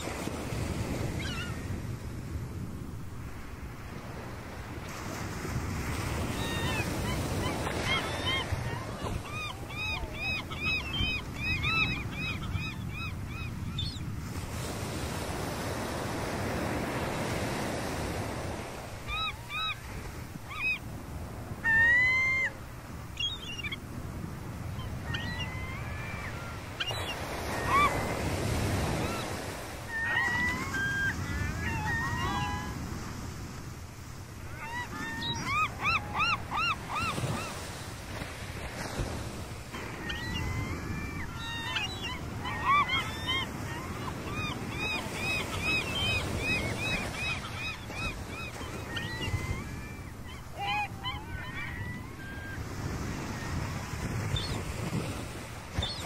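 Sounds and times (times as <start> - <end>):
wind: 0.0 - 56.0
gulls calling: 5.9 - 33.1, 34.4 - 39.1, 39.7 - 56.0.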